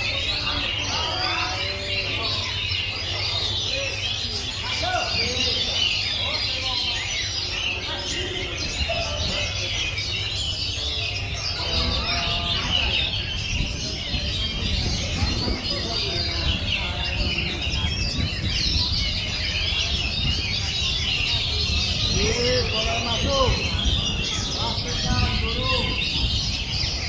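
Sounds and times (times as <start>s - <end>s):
songbirds chirping and warbling: 0.0s - 27.0s.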